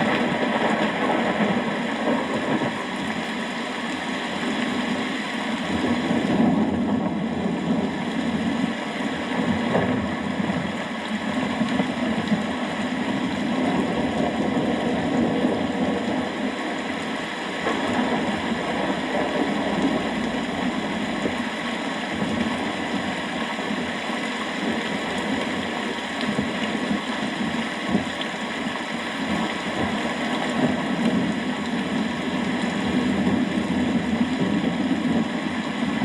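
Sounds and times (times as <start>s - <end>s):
steady rainfall: 0.0s - 36.0s.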